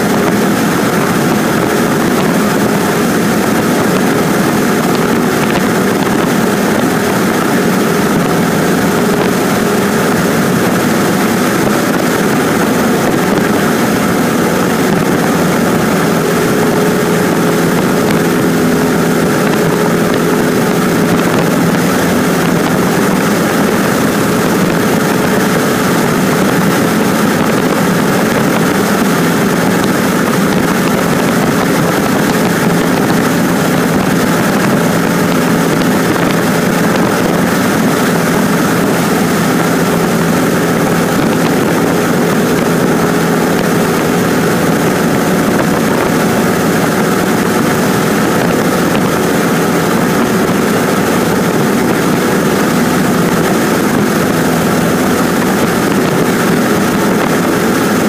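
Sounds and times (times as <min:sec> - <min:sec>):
airplane engine droning: 0:00.0 - 0:58.0
rushing air: 0:00.0 - 0:58.0.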